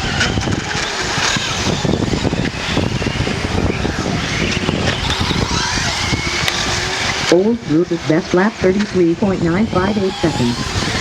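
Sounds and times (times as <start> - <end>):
remote-controlled car motors whining: 0.0 - 11.0.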